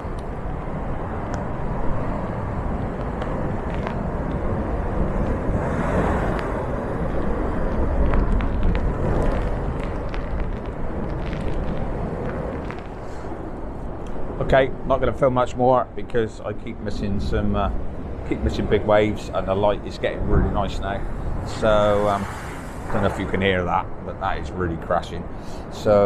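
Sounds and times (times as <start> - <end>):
storm waves crashing: 0.0 - 25.5.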